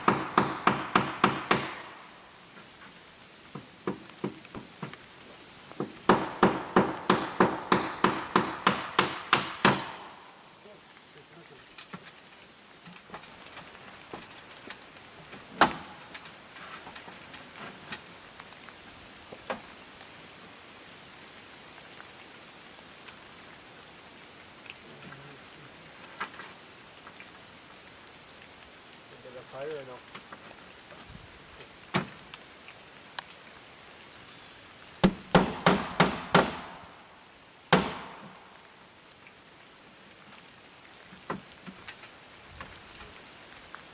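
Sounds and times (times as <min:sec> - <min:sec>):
light rain hissing: 0:00.0 - 0:43.9.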